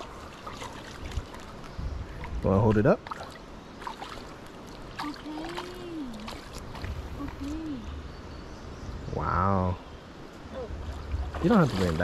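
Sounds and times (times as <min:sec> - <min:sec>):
river water lapping: 0:00.0 - 0:08.8, 0:09.9 - 0:12.0.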